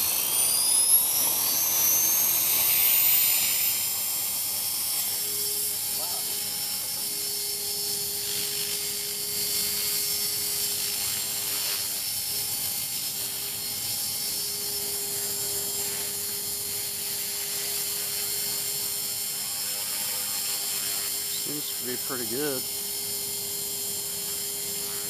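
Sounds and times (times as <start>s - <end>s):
helicopter rotor noise: 0.0s - 25.0s
rc helicopter motor whine: 0.0s - 25.0s.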